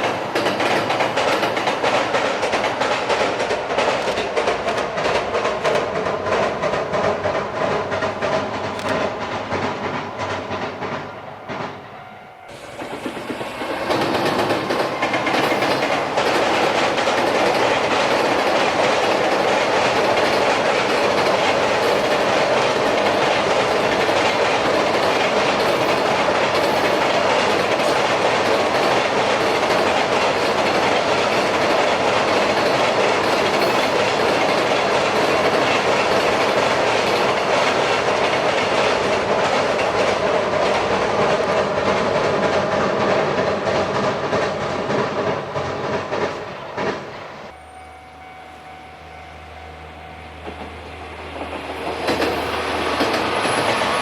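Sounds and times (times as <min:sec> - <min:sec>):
train wheels on bridge rails: 0:00.0 - 0:47.6, 0:48.2 - 0:54.0.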